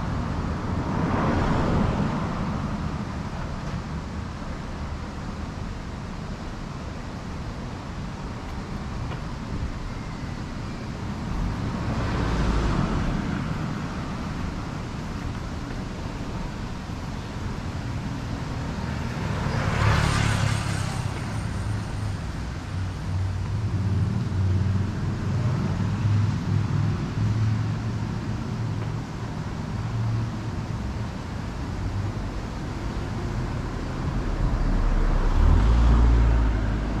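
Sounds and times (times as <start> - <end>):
cars passing by: 0.0 - 37.0
low traffic rumble: 0.0 - 37.0.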